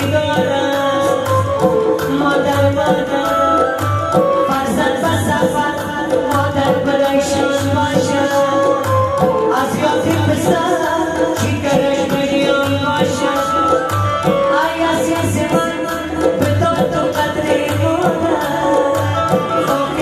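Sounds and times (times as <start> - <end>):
keyboard: 0.0 - 20.0
man singing: 0.0 - 20.0
tabla and hand drums: 0.0 - 20.0.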